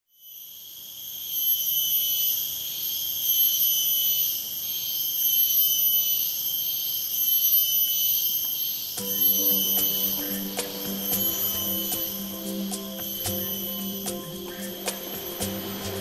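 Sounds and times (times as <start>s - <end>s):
insects droning: 0.2s - 16.0s.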